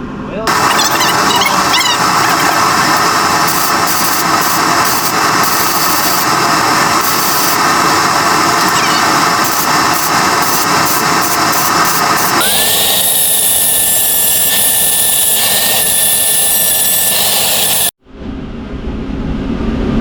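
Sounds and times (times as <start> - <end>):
power tool working metal: 0.5 - 17.9
motor whine: 0.5 - 18.0.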